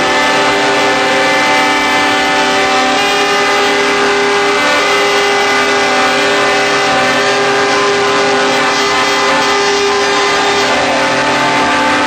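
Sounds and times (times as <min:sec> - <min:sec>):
truck air horns chord: 0:00.0 - 0:12.0.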